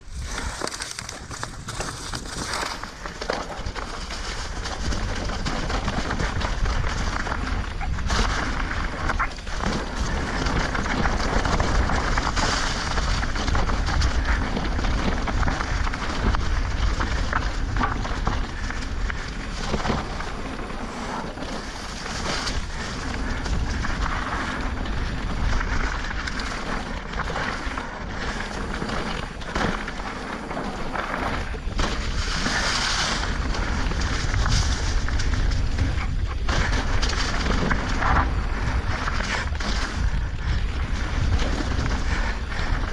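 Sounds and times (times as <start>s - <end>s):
steady rushing noise: 0.0s - 42.9s
wind rumbling on microphone: 0.0s - 42.9s.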